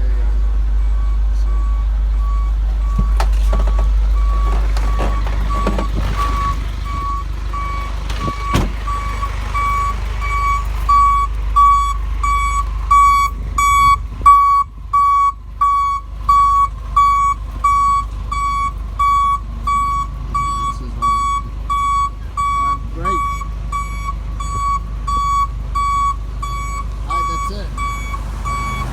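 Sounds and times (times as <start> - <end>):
truck backup alarm beeping: 0.0 - 28.9.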